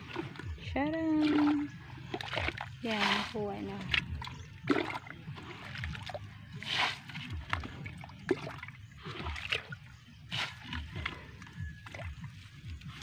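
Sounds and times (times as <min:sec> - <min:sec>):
cup scooping muddy water: 0:00.0 - 0:13.0.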